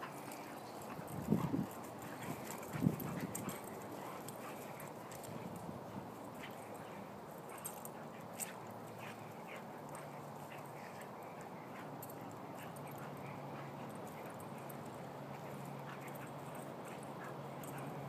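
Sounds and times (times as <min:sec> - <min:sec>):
dogs mouthing and scuffling: 0:00.0 - 0:18.0.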